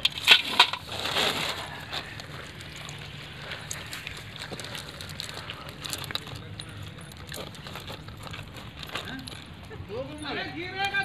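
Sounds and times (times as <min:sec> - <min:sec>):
fishing net rustling and clicking: 0:00.0 - 0:09.7.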